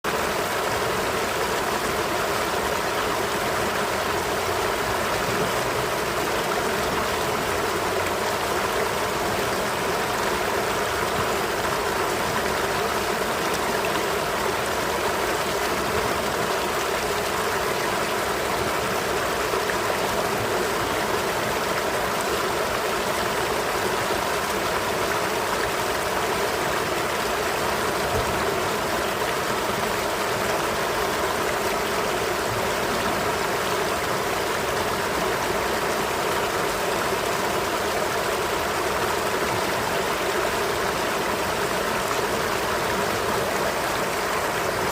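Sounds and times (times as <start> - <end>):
river flowing over rocks: 0.1 - 44.9.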